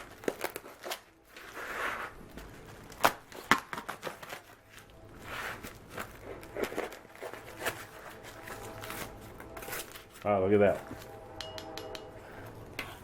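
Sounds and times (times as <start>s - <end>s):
paper packaging rustling: 0.0s - 11.2s.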